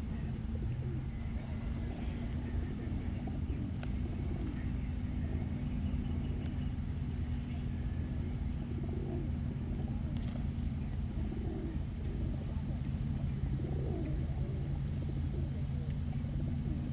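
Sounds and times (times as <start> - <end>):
faint bird calls: 0.0 - 16.9
low rumble of background noise: 0.0 - 16.9.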